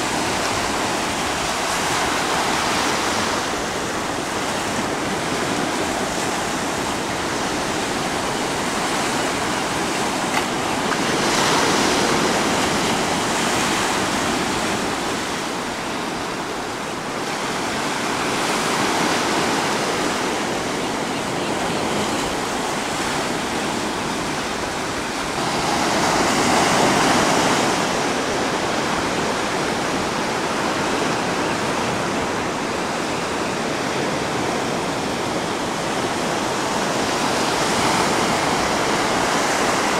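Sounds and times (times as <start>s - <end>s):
ocean surf on beach: 0.0s - 39.9s.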